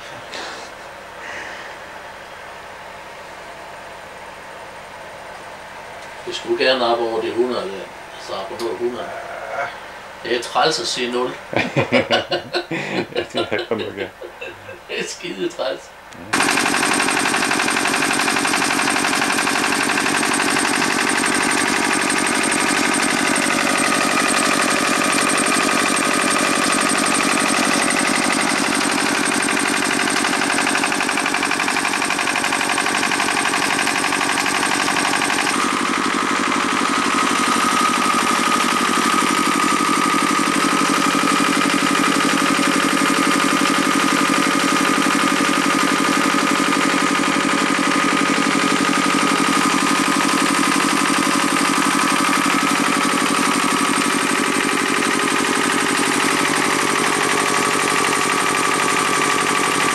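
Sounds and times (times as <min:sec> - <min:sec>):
small generator running: 0:00.0 - 0:59.9.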